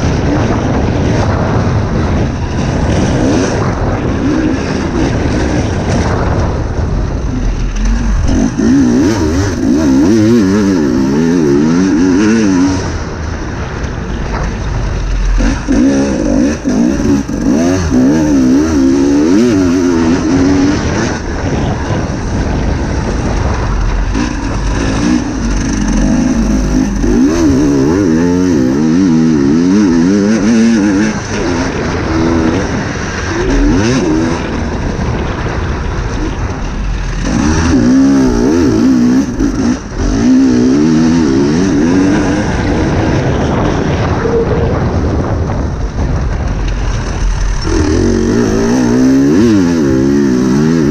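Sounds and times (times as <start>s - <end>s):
dirt bike engine revving: 0.0s - 44.4s, 46.7s - 50.9s.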